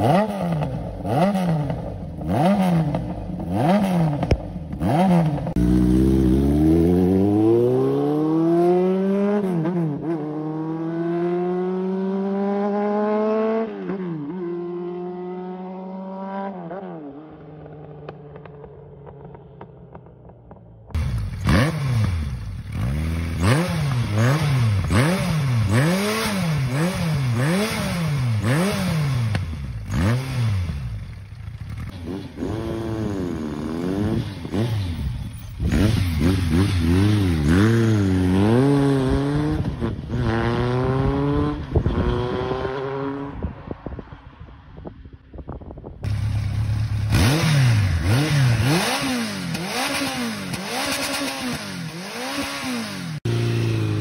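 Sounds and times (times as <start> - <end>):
motorcycle pulling away: 0.0 - 13.6, 21.0 - 43.2, 46.1 - 54.0
motorcycle engine revving: 0.0 - 43.6, 46.0 - 54.0.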